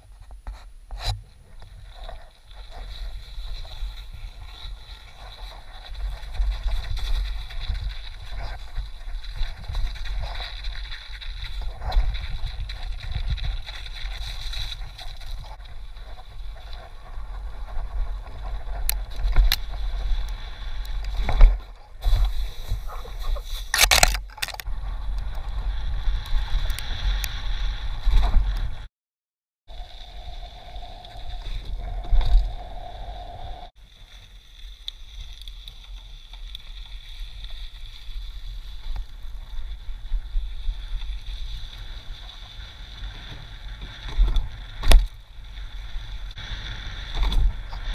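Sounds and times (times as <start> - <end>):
wind rumble on microphone: 0.0 - 28.9, 34.9 - 47.9
bike tyres and frame rattling: 1.0 - 28.9, 29.7 - 47.9.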